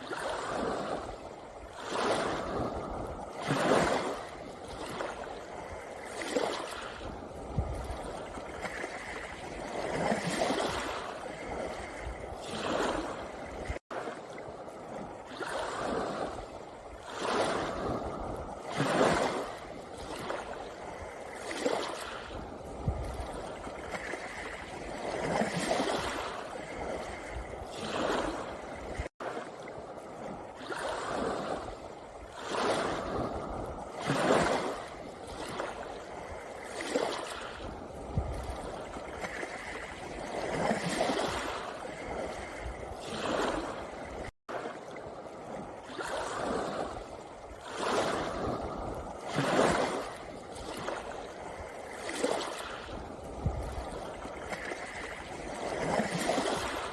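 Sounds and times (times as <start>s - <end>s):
waves washing up pebble beach: 0.0s - 14.2s, 17.1s - 29.6s, 30.2s - 44.8s, 45.8s - 56.9s.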